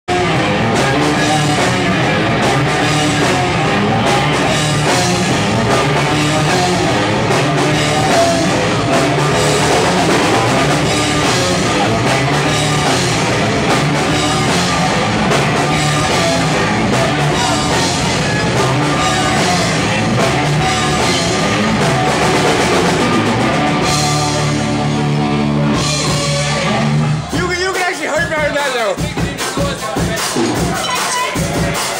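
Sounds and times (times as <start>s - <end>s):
drum kit playing: 0.1s - 31.9s
loud rock music: 0.1s - 31.9s.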